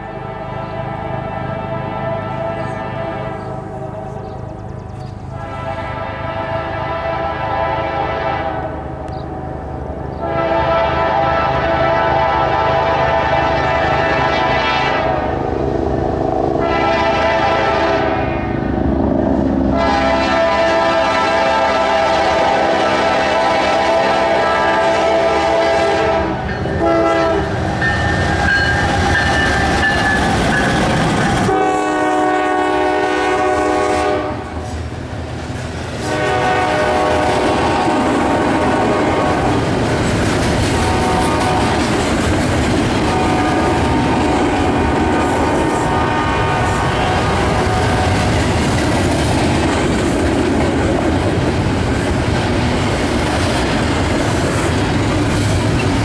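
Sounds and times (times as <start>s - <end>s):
train horn blasts: 0.0s - 15.5s, 16.5s - 18.8s, 19.6s - 34.8s, 36.0s - 39.8s, 40.6s - 48.7s
passing train rumble: 0.0s - 56.0s
wheels clacking on rails: 2.5s - 6.0s, 8.7s - 17.0s, 18.6s - 56.0s.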